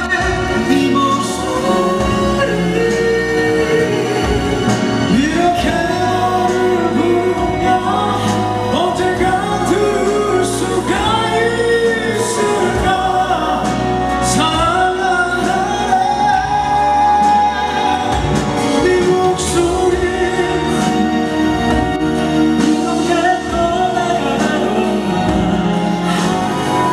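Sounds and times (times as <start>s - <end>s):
male vocal group singing: 0.0s - 26.9s
musical accompaniment: 0.0s - 26.9s.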